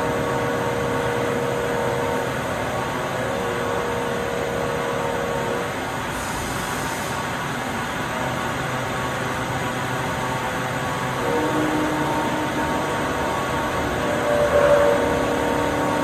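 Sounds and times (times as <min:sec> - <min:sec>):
lathe mechanical hum: 0:00.0 - 0:16.0.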